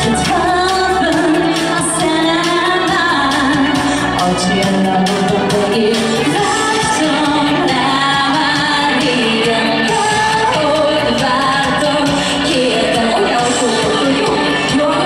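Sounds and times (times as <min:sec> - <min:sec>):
loud pop accompaniment: 0:00.0 - 0:15.0
woman singing: 0:00.0 - 0:15.0.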